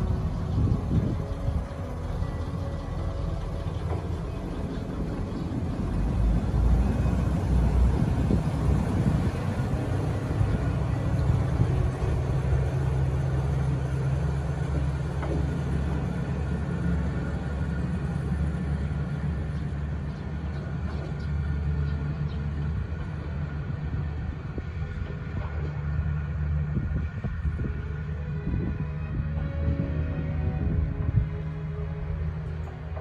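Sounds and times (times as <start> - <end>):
diesel railcar engine drone: 0.0 - 33.0.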